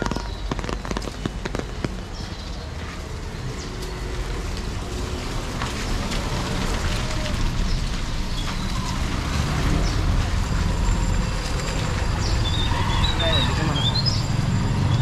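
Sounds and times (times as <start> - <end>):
rain pattering on street: 0.0 - 15.0
traffic rumble: 0.0 - 15.0.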